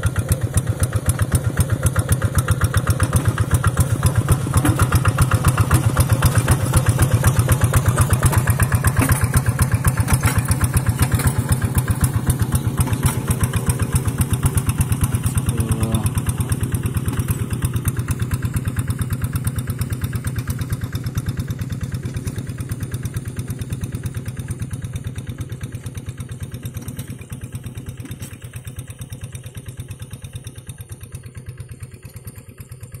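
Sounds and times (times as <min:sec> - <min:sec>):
diesel engine chugging: 0:00.0 - 0:33.0.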